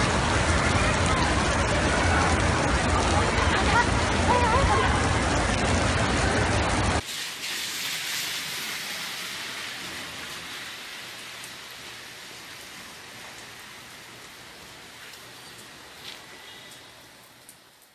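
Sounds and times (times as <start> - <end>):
heavy rain hissing: 0.0 - 17.9.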